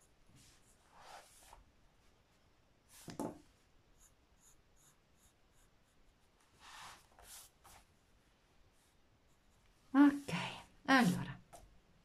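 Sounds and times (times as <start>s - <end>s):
pencil strokes on paper: 0.0s - 1.7s, 2.8s - 8.0s, 8.7s - 11.7s.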